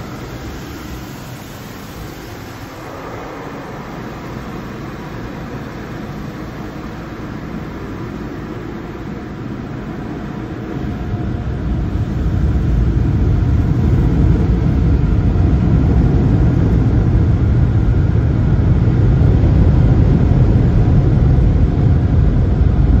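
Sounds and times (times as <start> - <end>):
dryer blowers blasting air: 0.0 - 23.0.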